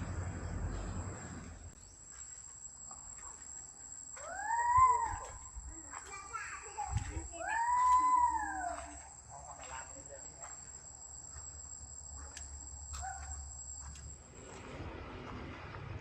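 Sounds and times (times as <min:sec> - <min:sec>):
insects shrilling drone: 0:00.0 - 0:15.1.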